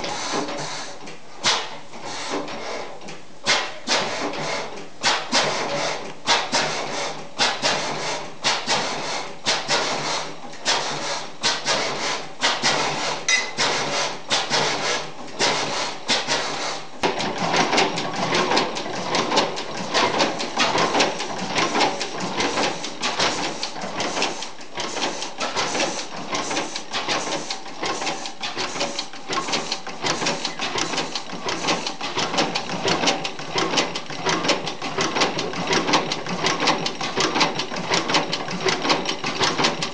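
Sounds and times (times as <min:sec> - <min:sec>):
regular mechanical clatter: 0:00.0 - 0:39.9
stationary gas engine running: 0:03.4 - 0:39.9.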